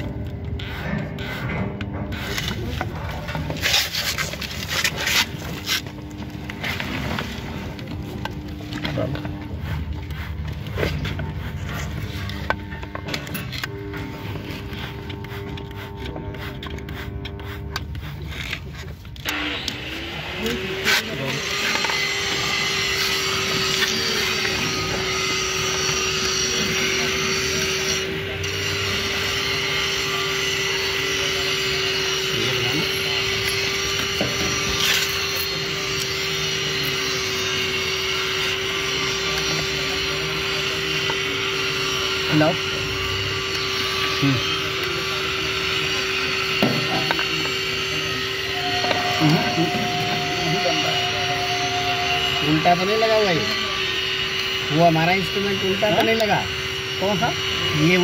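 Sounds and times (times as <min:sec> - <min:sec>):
machine hum: 0:00.0 - 0:58.0.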